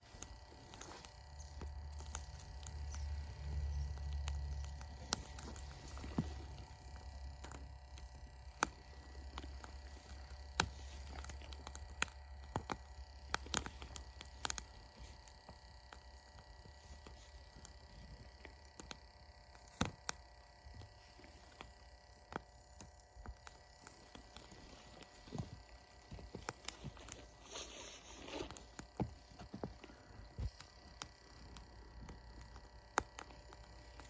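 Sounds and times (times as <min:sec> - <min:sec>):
low steady hum: 0:00.0 - 0:34.0
wood fire crackling: 0:00.0 - 0:34.0.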